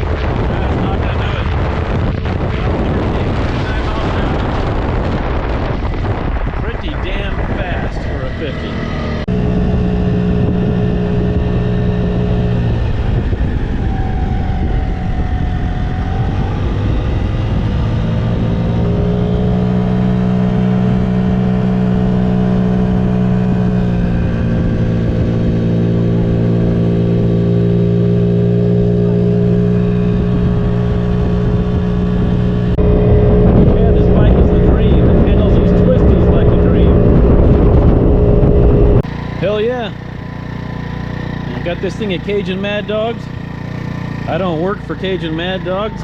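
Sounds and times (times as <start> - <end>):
scooter engine running hard: 0.0 - 46.0.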